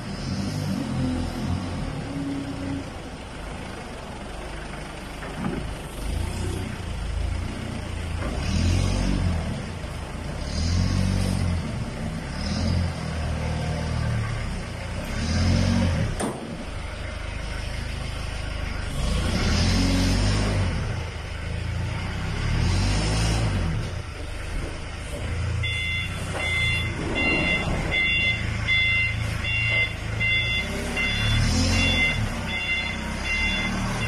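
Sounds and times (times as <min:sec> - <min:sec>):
forklift engine revving: 0:00.0 - 0:34.0.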